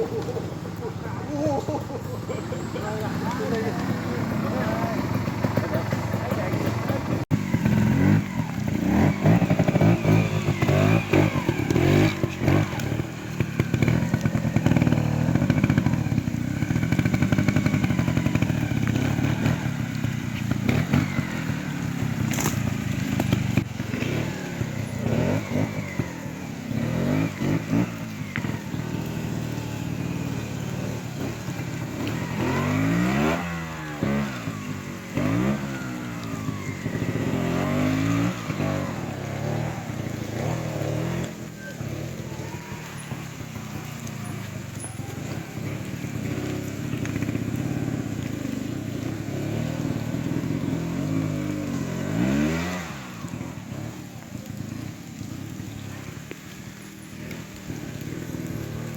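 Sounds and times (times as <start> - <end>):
motorcycle engine throttle blips: 0.0 - 58.9.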